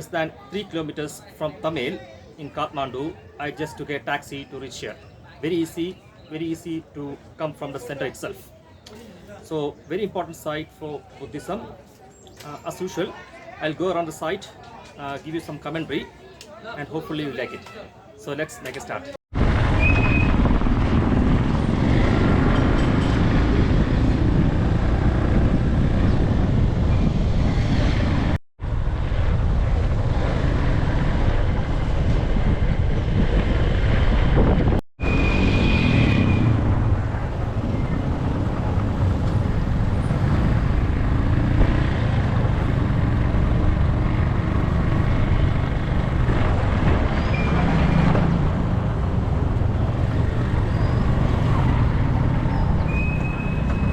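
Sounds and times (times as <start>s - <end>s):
traffic noise with low rumble: 0.0s - 53.9s.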